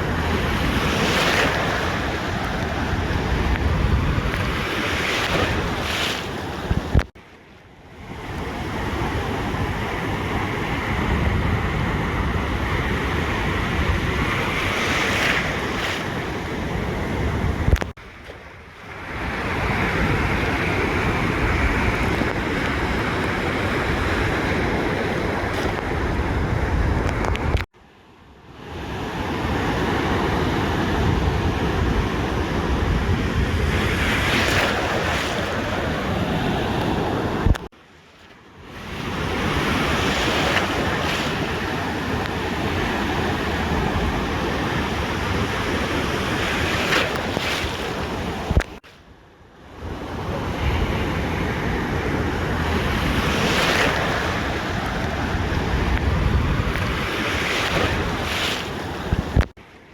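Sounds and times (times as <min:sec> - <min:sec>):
wind noise on microphone: 0:00.0 - 0:07.1, 0:08.0 - 0:27.7, 0:28.8 - 0:37.7, 0:38.6 - 0:48.9, 0:49.8 - 0:59.9
ocean surf washing on beach: 0:00.0 - 0:59.9.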